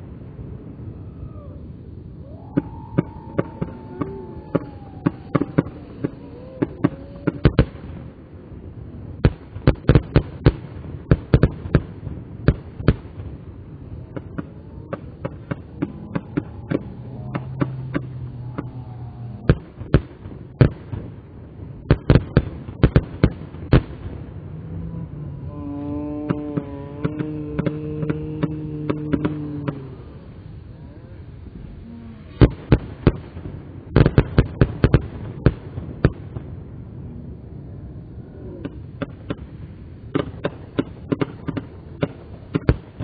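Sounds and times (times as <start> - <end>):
fireworks crackling and popping: 0.0 - 43.0.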